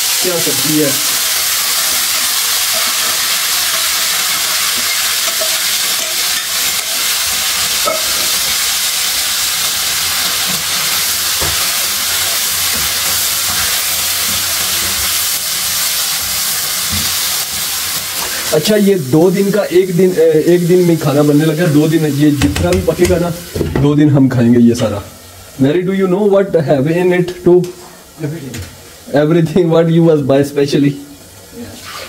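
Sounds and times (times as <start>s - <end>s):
vegetables sizzling in a wok: 0.0s - 32.0s.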